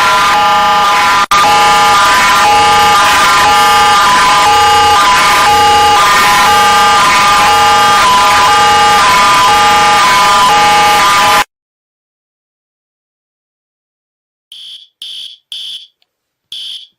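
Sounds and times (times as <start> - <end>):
harsh electronic alarm: 0.0 - 11.5, 14.5 - 16.9.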